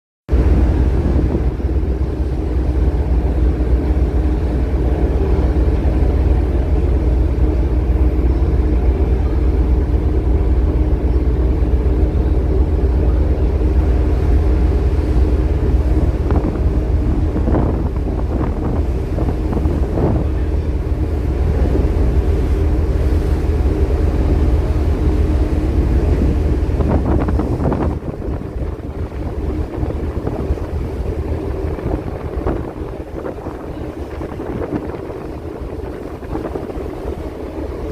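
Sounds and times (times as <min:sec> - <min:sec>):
ship engines rumbling: 0:00.3 - 0:37.9
wind buffeting microphone: 0:00.3 - 0:37.9.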